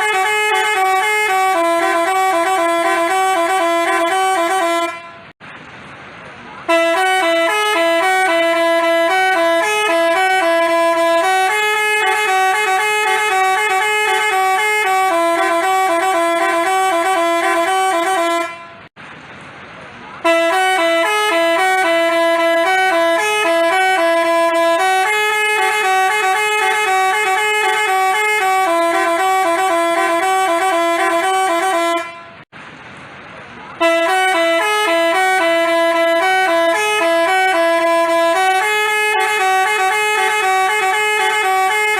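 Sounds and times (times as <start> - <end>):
multi-tone bus horn tune: 0.0 - 5.4, 6.6 - 19.0, 20.2 - 32.5, 33.8 - 41.9.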